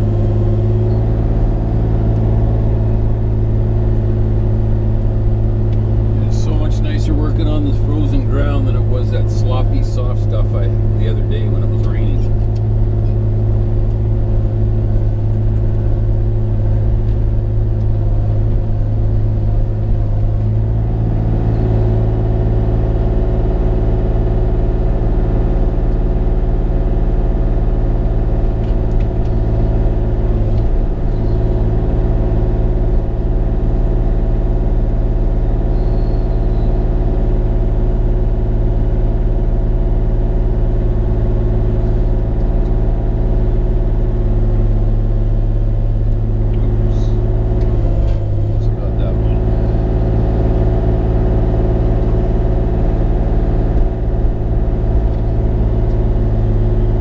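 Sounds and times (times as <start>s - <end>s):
mini excavator diesel engine: 0.0s - 57.0s.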